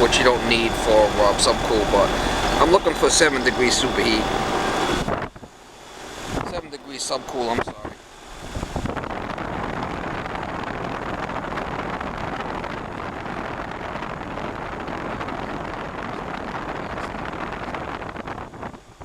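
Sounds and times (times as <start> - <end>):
compressor hum: 0.0 - 19.0
condenser fan air rush: 0.0 - 19.0.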